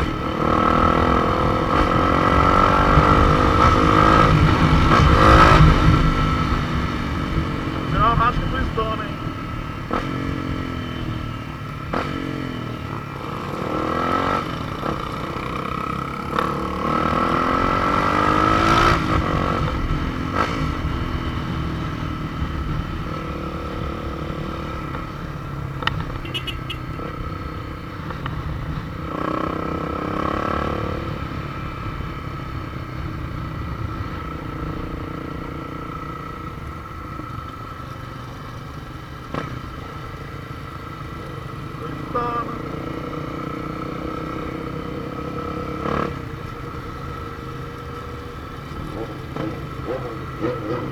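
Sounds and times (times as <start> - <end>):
motorcycle engines accelerating: 0.0 - 50.9.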